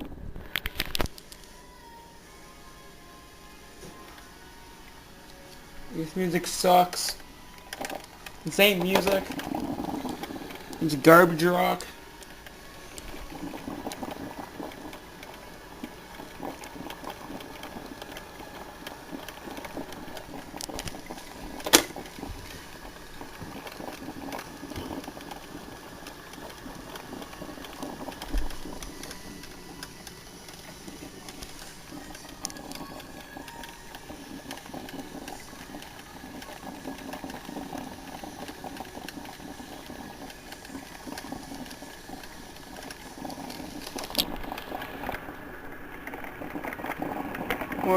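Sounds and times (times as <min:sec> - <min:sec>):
coffee maker sputtering and gurgling: 0:00.0 - 0:02.3, 0:03.8 - 0:47.9.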